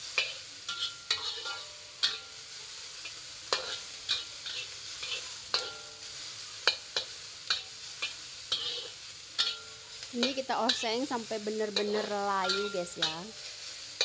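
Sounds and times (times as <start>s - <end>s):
metal spatula scraping wok: 0.0s - 14.0s
onions sizzling in oil: 0.0s - 14.0s.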